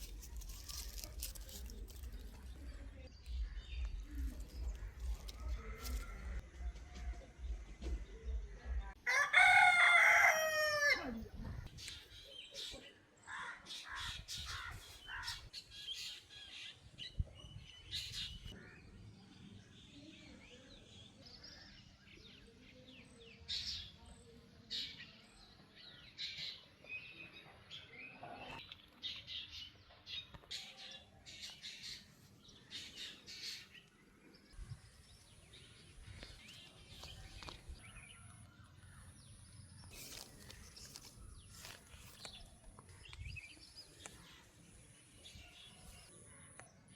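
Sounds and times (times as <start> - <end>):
songbirds chirping: 0.0 - 46.9.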